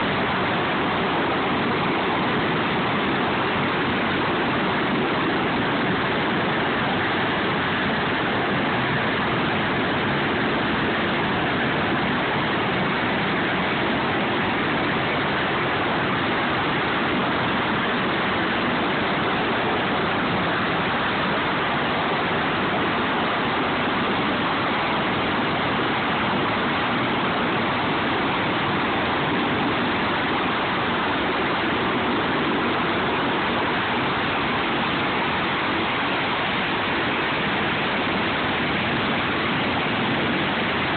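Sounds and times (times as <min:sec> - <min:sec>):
helicopter engines and rotor: 0:00.0 - 0:40.9.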